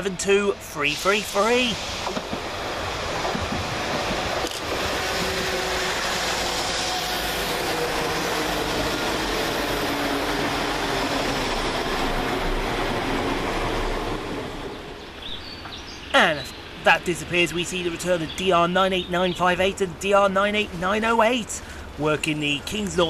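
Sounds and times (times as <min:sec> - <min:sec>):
faint engine whine: 0:00.0 - 0:23.0
train rumbling past: 0:00.0 - 0:23.0.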